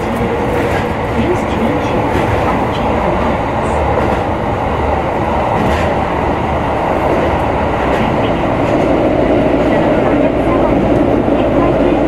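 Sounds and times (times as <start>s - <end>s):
subway train rumbling in tunnel: 0.0s - 12.0s.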